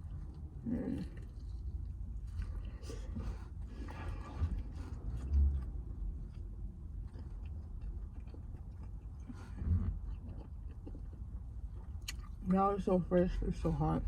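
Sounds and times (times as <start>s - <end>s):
low rumble: 0.0s - 12.0s
person chewing food: 0.0s - 12.6s.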